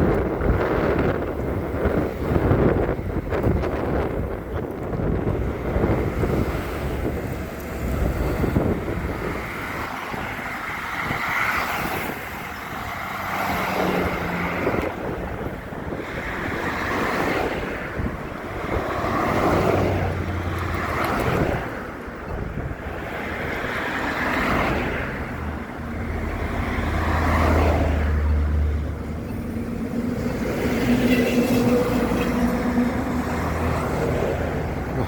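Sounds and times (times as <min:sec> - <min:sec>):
road traffic passing: 0:00.0 - 0:35.0
wind buffeting microphone: 0:00.0 - 0:35.0.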